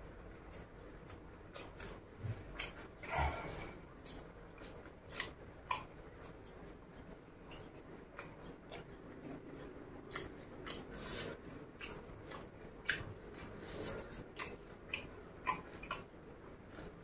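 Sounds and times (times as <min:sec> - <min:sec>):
chewing with crisp crunches: 0:00.2 - 0:17.0.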